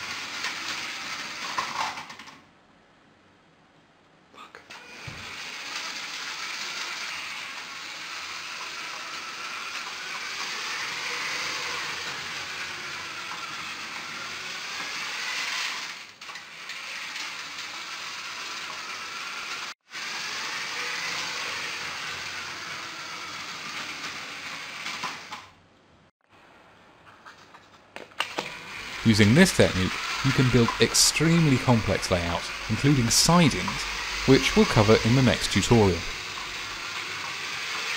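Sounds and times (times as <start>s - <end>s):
toy train wheels rattling: 0.0s - 2.4s, 4.8s - 25.5s, 28.2s - 37.9s
faint motor whine: 4.4s - 37.9s.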